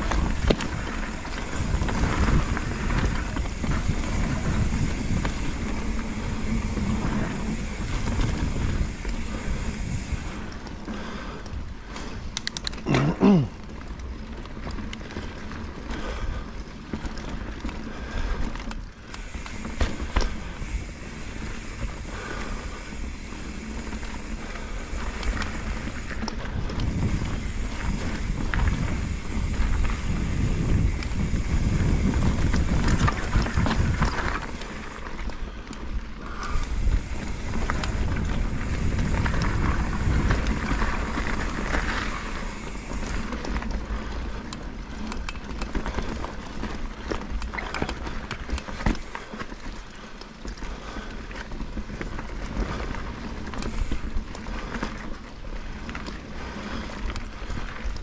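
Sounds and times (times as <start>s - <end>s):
bike clicks and rattles: 0.0s - 58.0s.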